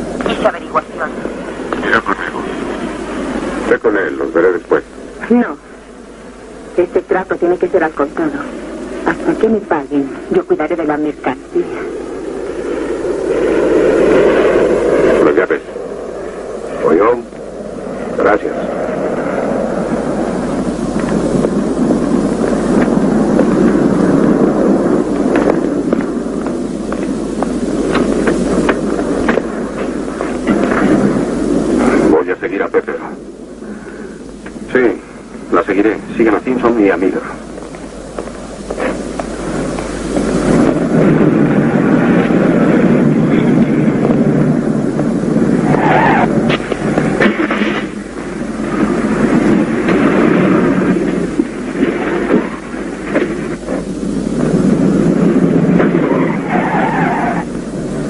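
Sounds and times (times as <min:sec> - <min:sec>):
low rumble of traffic: 0:00.0 - 0:58.0.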